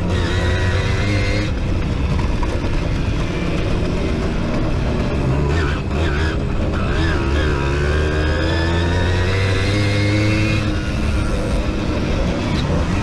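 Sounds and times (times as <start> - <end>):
moped engine revving high: 0.0 - 1.9, 2.8 - 13.0.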